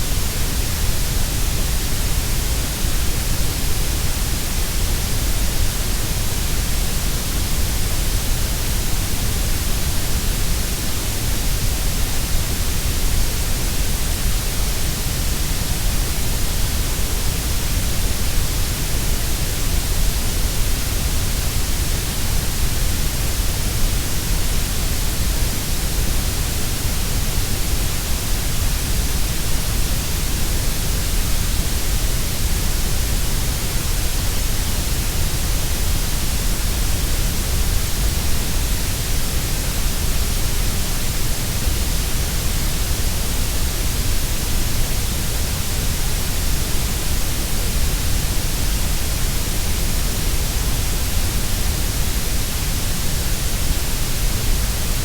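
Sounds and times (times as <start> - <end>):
grey noise hiss: 0.0 - 55.0.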